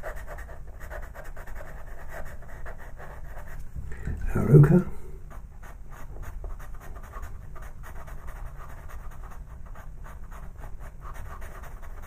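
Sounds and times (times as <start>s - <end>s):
pastel pencil scratching on paper: 0.0s - 3.6s, 5.3s - 12.0s.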